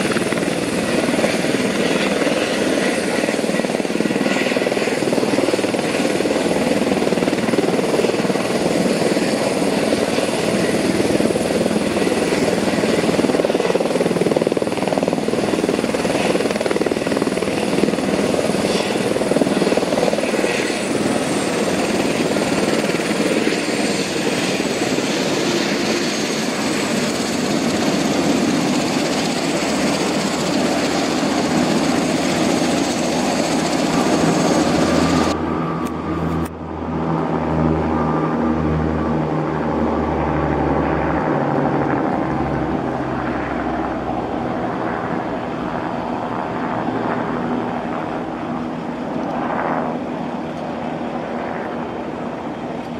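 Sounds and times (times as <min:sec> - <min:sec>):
helicopter rotor whir: 0:00.0 - 0:52.9
helicopter turbine whine: 0:00.0 - 0:52.9.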